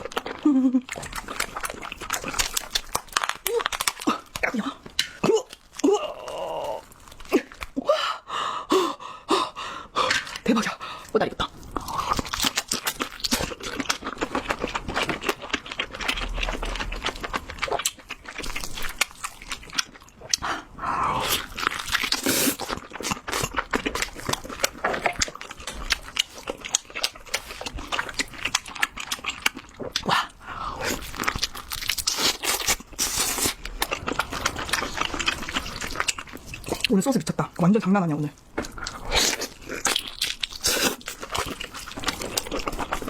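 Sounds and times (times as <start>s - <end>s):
crunching and wet chewing: 0.0s - 7.8s, 11.4s - 37.4s, 38.4s - 43.0s.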